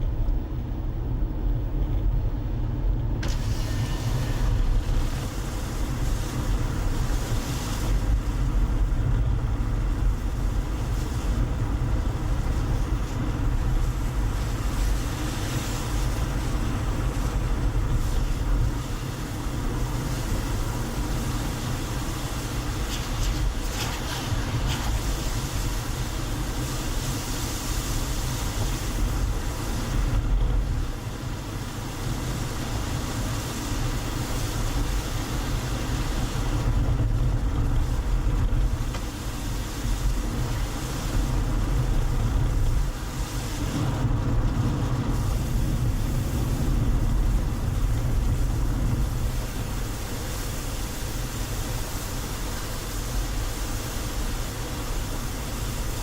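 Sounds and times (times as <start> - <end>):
car driving on road: 0.0 - 56.0.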